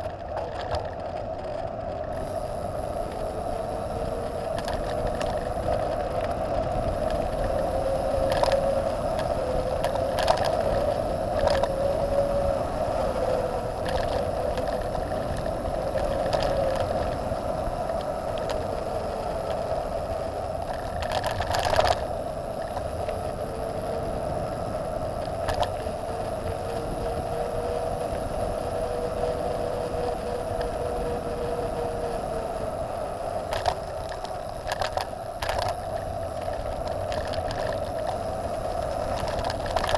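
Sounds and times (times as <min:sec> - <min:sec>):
bike tyres rolling: 0:00.0 - 0:39.9.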